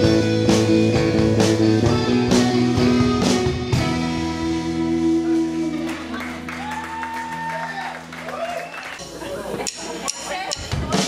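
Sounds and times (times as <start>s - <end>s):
drum kit: 0.0s - 7.5s, 8.2s - 11.0s
electric guitars: 0.0s - 9.6s.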